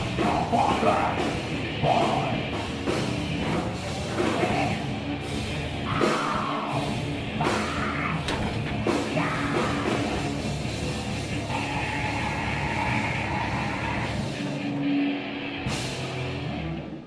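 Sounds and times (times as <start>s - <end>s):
heavy rock band playing live: 0.0s - 17.0s.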